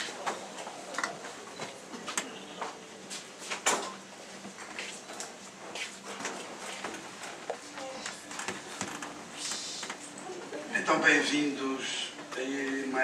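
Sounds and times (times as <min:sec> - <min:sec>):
people rustling: 0:00.0 - 0:10.6.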